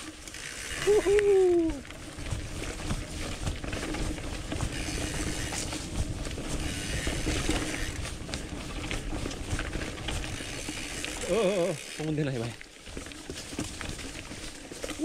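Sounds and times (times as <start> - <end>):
bike frame rattling and knocking: 0.0 - 15.0
bike tyres rolling on dirt: 0.0 - 15.0.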